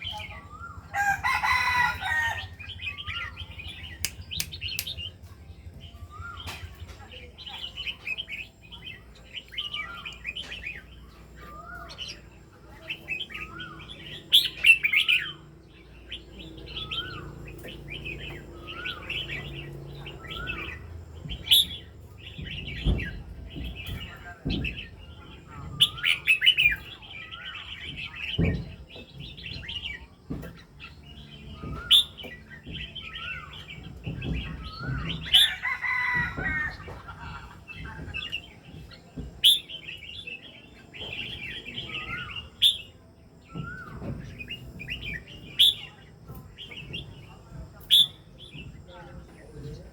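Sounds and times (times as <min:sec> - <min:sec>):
cage bird singing: 0:00.0 - 0:49.9.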